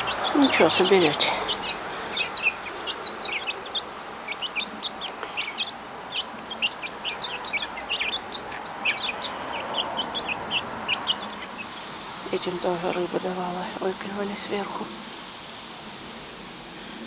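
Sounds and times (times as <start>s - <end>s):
chicks peeping: 0.0s - 14.8s.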